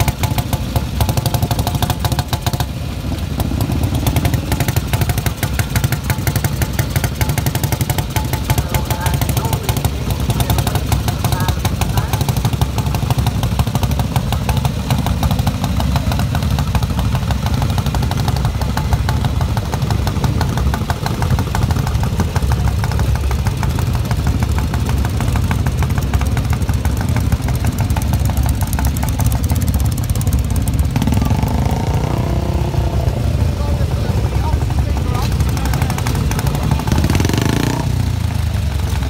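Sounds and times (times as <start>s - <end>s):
motorcycle engines idling: 0.0s - 39.0s.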